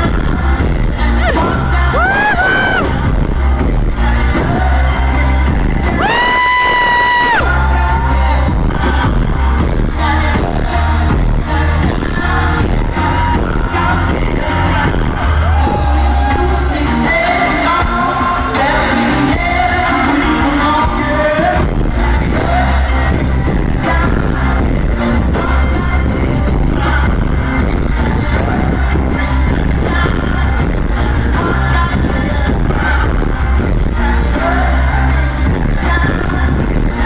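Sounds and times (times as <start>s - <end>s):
live electronic pop music: 0.0s - 37.0s
person singing: 0.0s - 37.0s.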